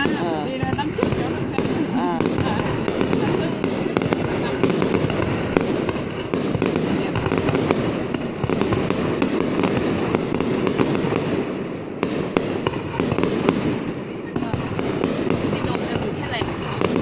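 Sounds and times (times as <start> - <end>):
fireworks crackling and popping: 0.0 - 17.0
fireworks sharp bangs: 0.0 - 17.0.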